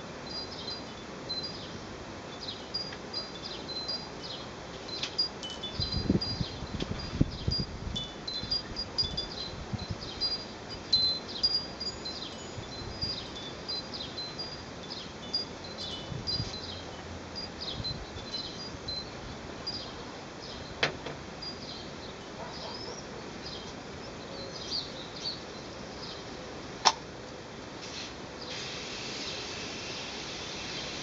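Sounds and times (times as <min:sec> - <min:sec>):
small birds chirping: 0:00.3 - 0:07.7, 0:08.3 - 0:20.8, 0:21.4 - 0:26.4.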